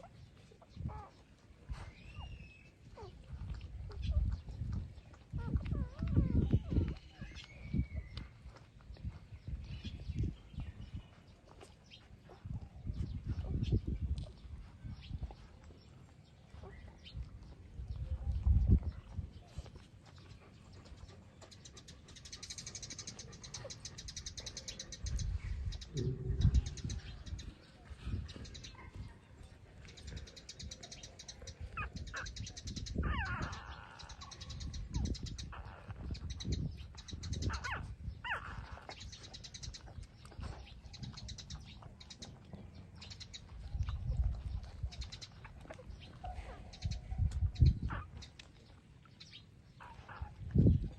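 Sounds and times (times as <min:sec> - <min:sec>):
puppies whining and squeaking: 0:00.0 - 0:48.8, 0:49.7 - 0:50.9.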